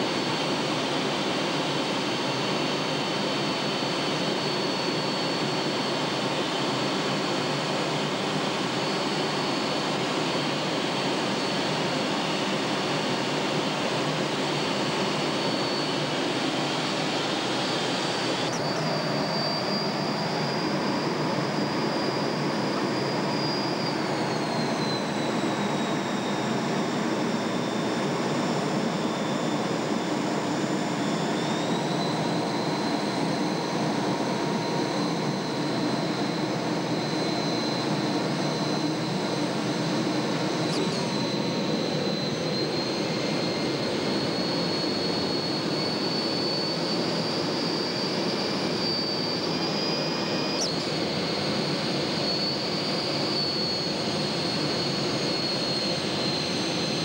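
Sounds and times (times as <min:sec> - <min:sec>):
high whine: 0:00.0 - 0:57.0
jet engine and airflow roar: 0:00.0 - 0:57.0.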